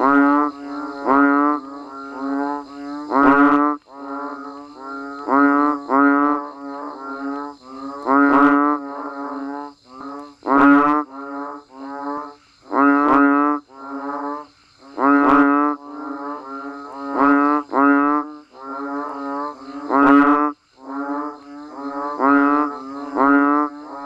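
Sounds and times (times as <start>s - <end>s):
frogs calling with low moo-like calls: 0.0s - 24.0s.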